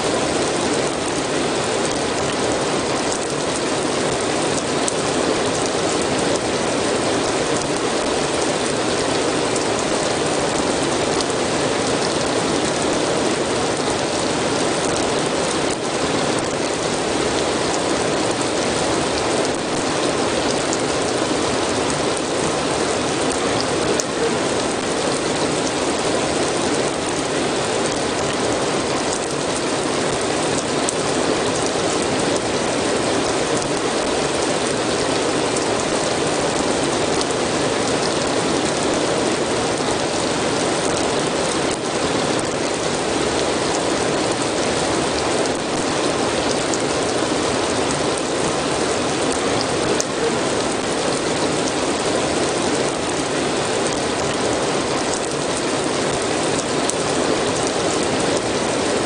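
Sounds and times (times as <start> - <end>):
dense rain pattering: 0.0 - 59.0.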